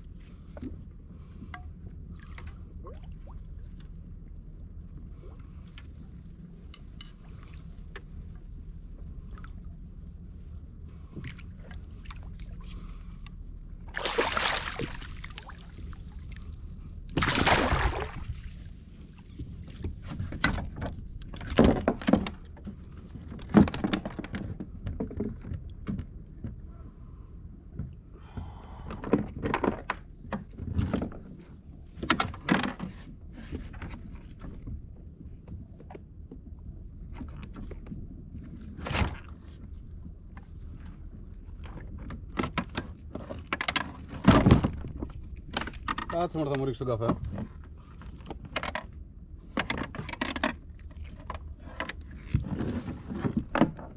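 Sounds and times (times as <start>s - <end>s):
low steady rumble: 0.0s - 53.9s.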